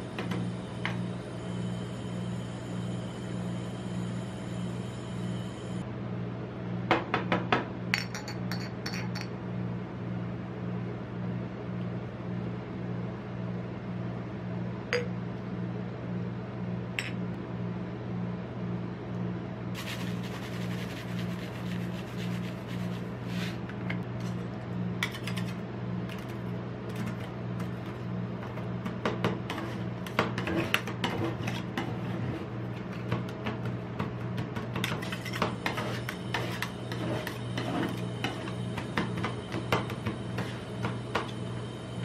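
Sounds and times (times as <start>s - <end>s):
steady low hum: 0.0s - 6.9s, 8.0s - 42.0s.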